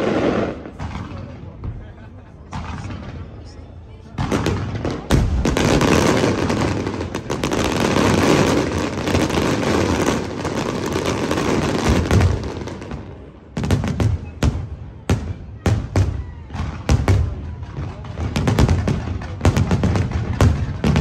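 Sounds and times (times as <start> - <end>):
fireworks crackling bangs: 0.0 - 21.0.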